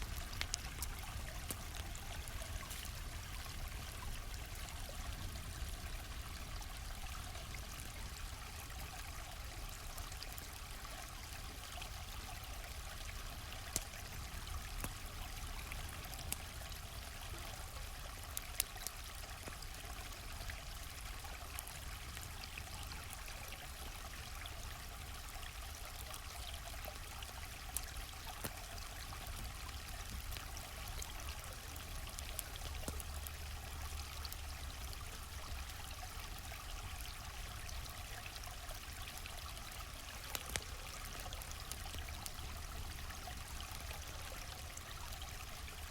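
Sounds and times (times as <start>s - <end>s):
campfire crackling and popping: 0.0s - 45.9s
stream flowing: 0.0s - 45.9s.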